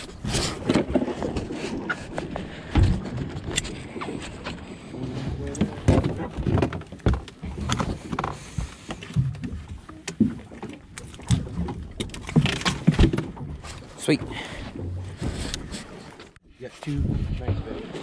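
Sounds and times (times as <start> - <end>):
knocks and thumps on boat deck: 0.2 - 16.2.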